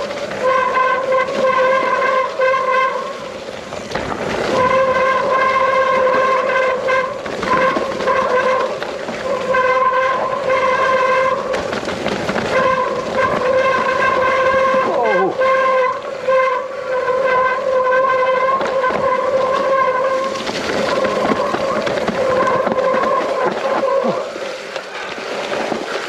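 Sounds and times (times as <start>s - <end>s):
disc brakes howling: 0.0s - 26.0s
tyre noise on loose trail: 0.0s - 26.0s
wind noise: 0.0s - 26.0s.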